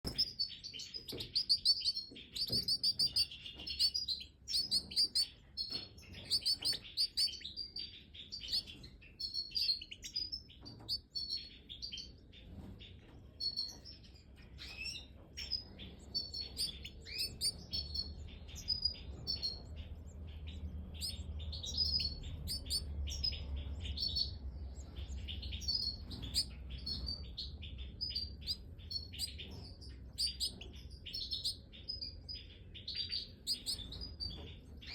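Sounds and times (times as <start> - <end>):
goldfinches twittering: 0.1 - 12.2, 14.6 - 34.9.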